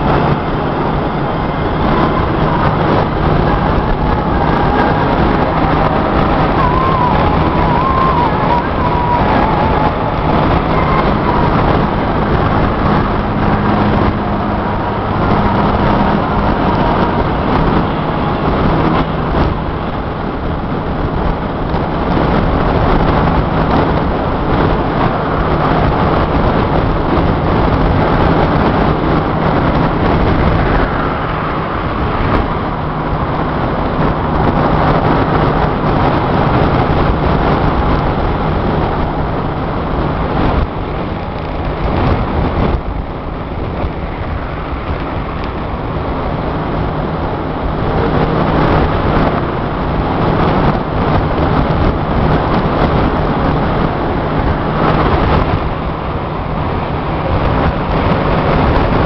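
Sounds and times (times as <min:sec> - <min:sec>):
low engine drone: 0:00.0 - 0:59.0
tyre and wind road noise: 0:00.0 - 0:59.0.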